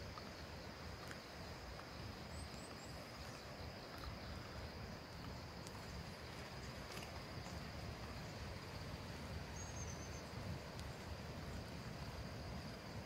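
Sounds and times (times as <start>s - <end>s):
high-pitched insect chorus: 0.0s - 13.0s
low outdoor rumble: 0.0s - 13.0s.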